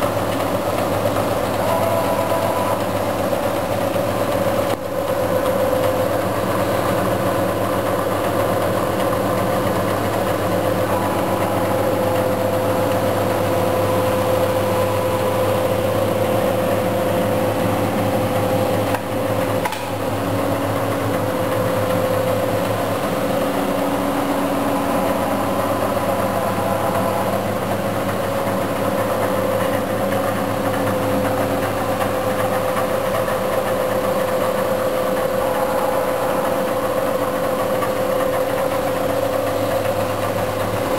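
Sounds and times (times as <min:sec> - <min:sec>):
machinery hum with whine: 0:00.0 - 0:40.9.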